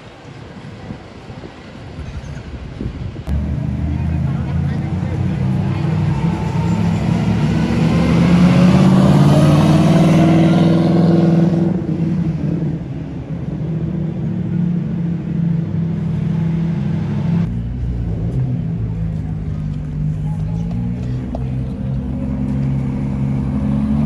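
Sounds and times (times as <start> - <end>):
car engine accelerating: 3.3 - 24.0.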